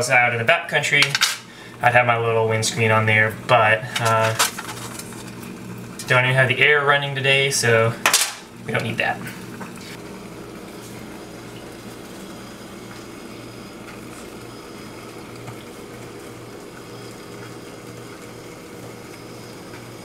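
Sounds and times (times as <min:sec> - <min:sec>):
water heating on a stove hissing: 0:00.0 - 0:20.0.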